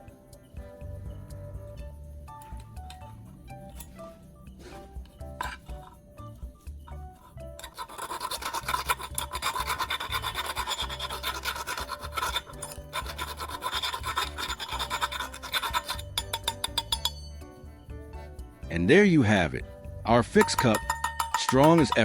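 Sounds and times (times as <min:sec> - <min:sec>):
background music: 0:00.0 - 0:22.0
metal being filed: 0:00.0 - 0:22.0.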